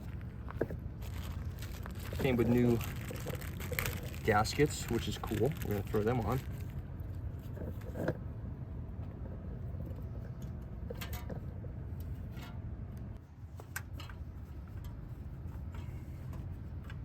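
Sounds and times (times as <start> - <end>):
exhaust parts clicking and clinking: 0.0 - 6.8, 9.0 - 17.0
steady low hum: 0.0 - 17.0.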